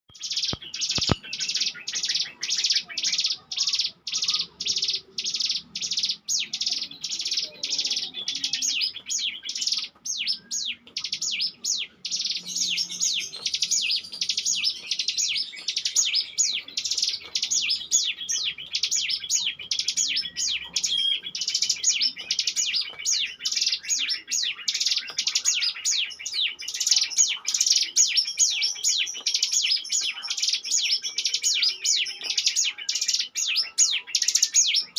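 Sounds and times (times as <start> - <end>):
bird singing high chipping trill: 0.1 - 34.9.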